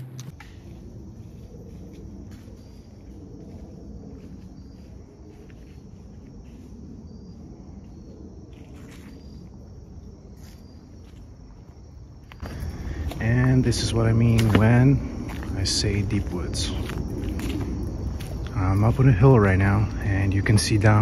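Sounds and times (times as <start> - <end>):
footsteps crunching on forest floor: 0.0 - 9.4, 10.3 - 21.0
high insect chirps: 0.0 - 21.0.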